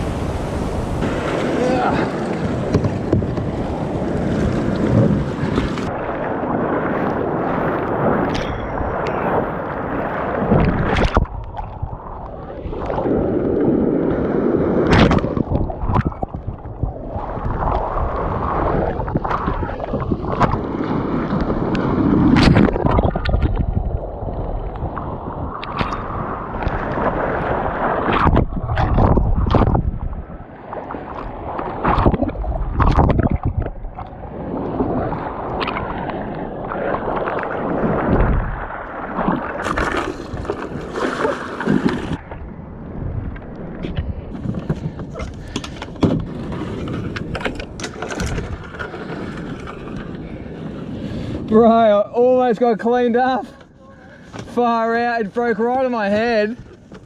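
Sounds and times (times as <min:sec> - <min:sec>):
sea water splashing: 0:00.0 - 0:51.6.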